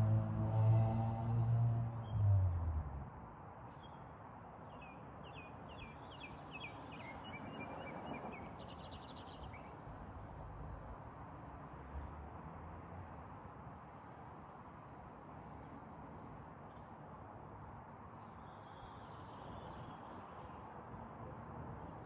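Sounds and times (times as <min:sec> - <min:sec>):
faint outdoor background noise: 0:00.0 - 0:22.0.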